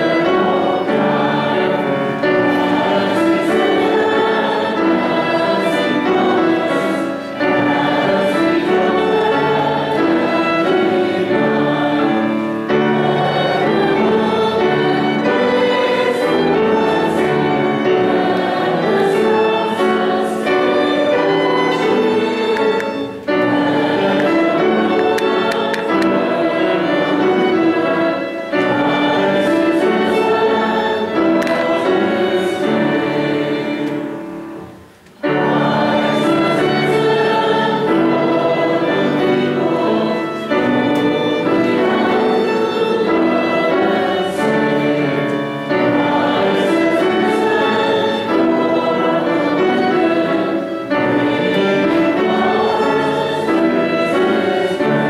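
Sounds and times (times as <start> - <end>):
congregation singing a hymn: 0.0 - 55.0
violin: 0.0 - 55.0.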